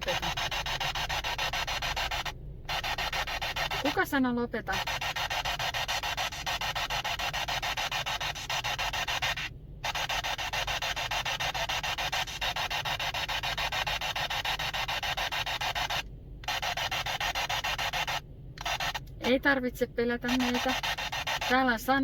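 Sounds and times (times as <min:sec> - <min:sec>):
static hiss with fast flutter: 0:00.0 - 0:19.4, 0:20.2 - 0:22.0.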